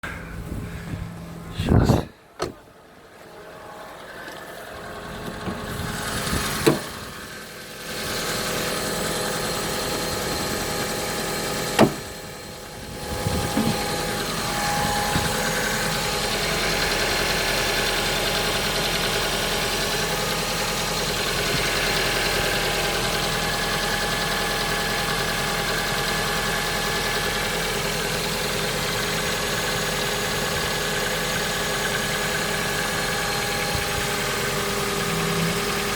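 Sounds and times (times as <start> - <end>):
car engine starting and idling: 0.0 - 35.9
engine knocking: 4.7 - 35.9.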